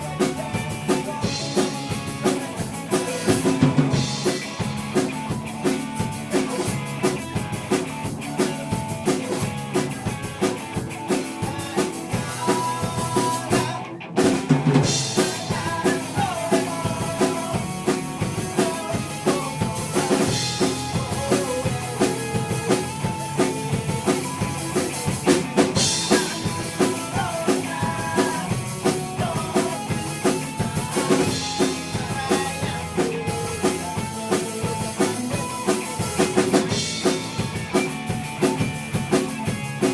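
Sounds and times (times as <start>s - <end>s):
drum kit steady beat: 0.0s - 39.9s
live rock band playing: 0.0s - 39.9s.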